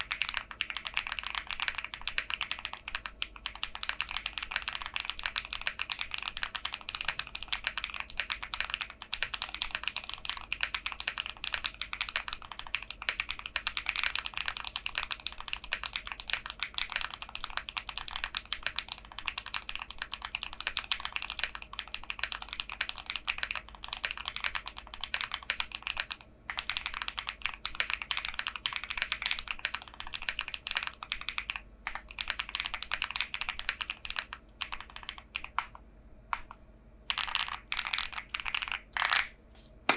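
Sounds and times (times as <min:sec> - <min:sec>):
mechanical keyboard typing: 0:00.0 - 0:35.6, 0:37.1 - 0:39.2.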